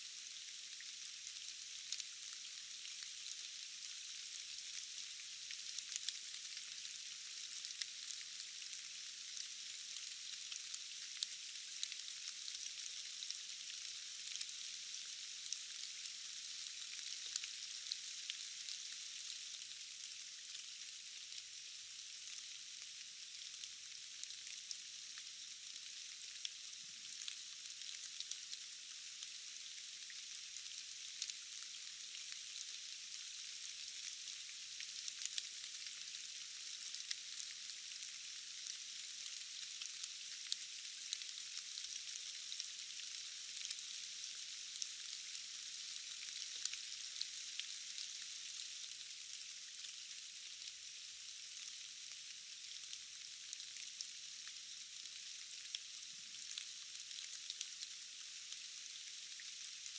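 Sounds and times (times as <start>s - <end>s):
rain falling in forest: 0.0s - 59.9s.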